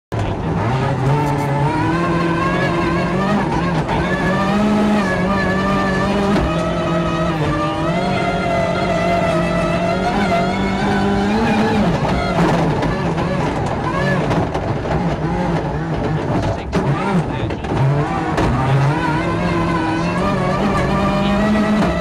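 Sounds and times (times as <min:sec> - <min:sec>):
rally car engine pulling hard: 0:00.1 - 0:22.0.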